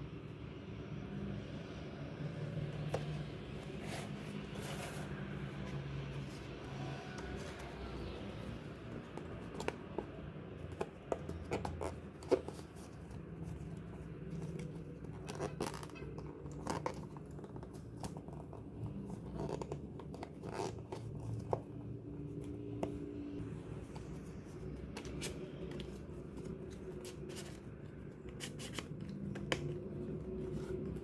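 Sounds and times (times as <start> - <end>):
hands handling stationery and packaging: 2.3 - 23.1, 23.8 - 31.0.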